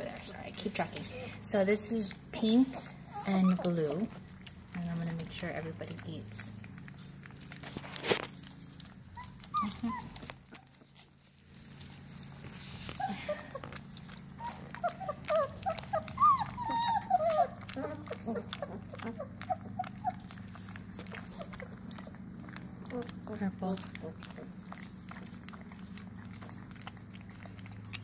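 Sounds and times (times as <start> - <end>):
puppies eating kibble clicks: 0.0 - 28.0
puppies squeaking and whimpering: 0.0 - 28.0.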